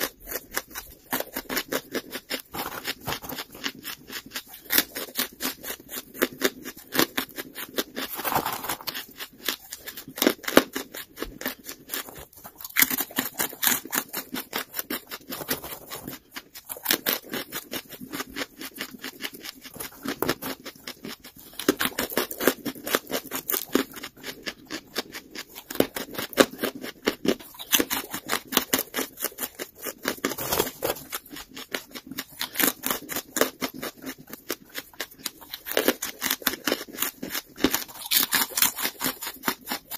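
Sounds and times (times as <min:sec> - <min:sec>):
chewing crunchy charcoal: 0:00.0 - 0:39.9.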